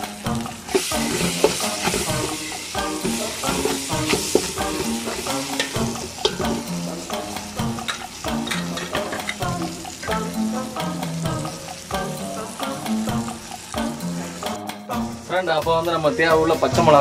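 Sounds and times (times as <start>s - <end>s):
background music: 0.0s - 17.0s
vegetables sizzling in oil: 0.0s - 17.0s.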